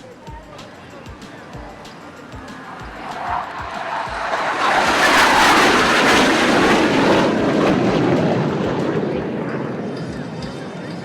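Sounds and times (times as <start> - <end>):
jets passing overhead: 0.0 - 11.0.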